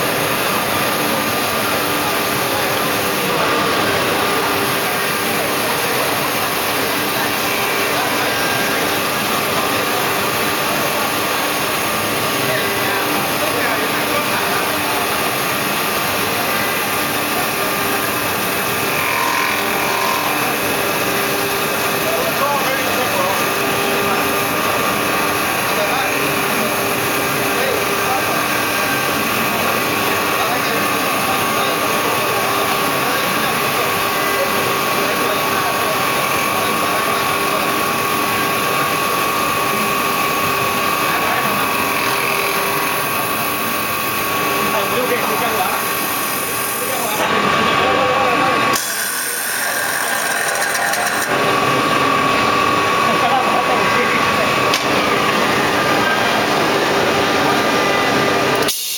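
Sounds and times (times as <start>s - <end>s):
lathe cutter shearing wood: 0.0s - 58.5s
lathe motor hum: 0.0s - 58.7s.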